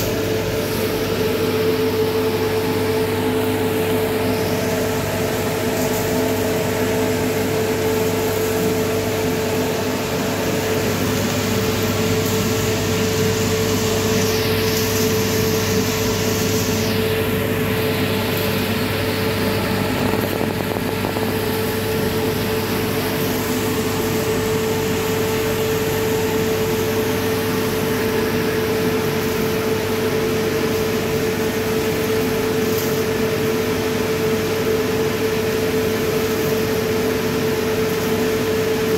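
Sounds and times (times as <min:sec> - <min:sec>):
fan and motor hum: 0:00.0 - 0:38.9.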